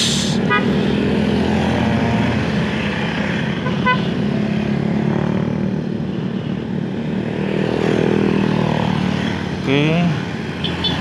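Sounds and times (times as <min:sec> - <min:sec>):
motorcycles riding past: 0:00.1 - 0:06.0, 0:07.0 - 0:11.0.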